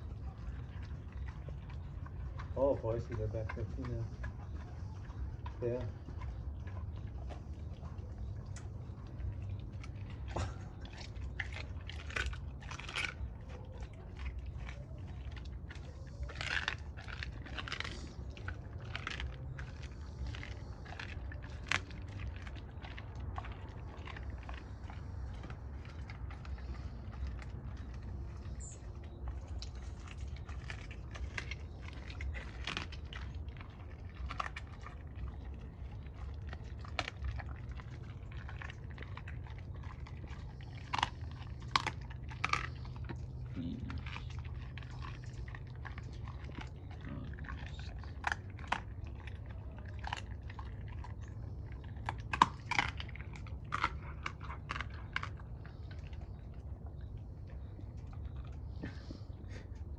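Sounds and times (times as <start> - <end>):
dog chewing bone: 0.0 - 59.9
low hum: 0.0 - 59.9.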